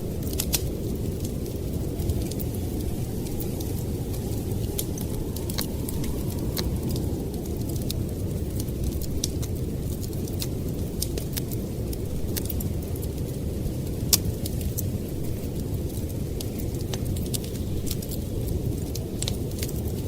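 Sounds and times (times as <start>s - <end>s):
blizzard wind rumble: 0.0s - 20.0s
wood fire crackling: 0.0s - 20.0s.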